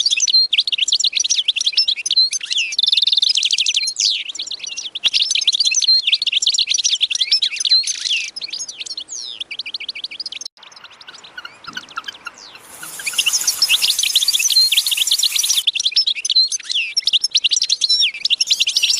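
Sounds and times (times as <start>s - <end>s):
small birds chirping and twittering: 0.0s - 18.9s.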